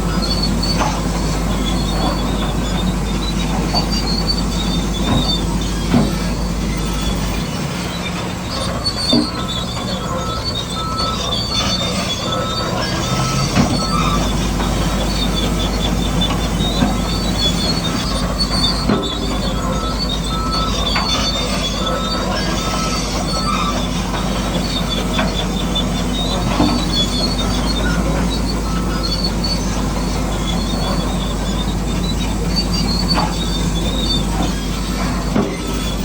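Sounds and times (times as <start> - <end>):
high gearbox whine: 0.0 - 36.0
tracks clicking: 0.0 - 36.0.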